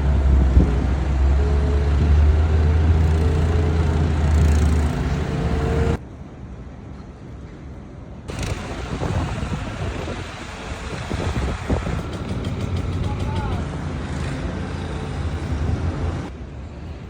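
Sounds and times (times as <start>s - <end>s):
vehicle engine rumbling: 0.0s - 6.0s, 8.3s - 16.3s
street noise: 0.0s - 17.0s.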